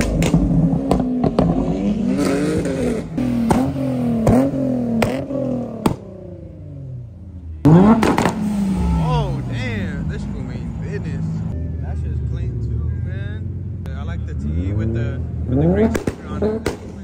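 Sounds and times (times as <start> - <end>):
exhaust crack: 0.0 - 6.6, 7.6 - 11.2, 12.3 - 17.0
sports car engines revving: 0.0 - 17.0.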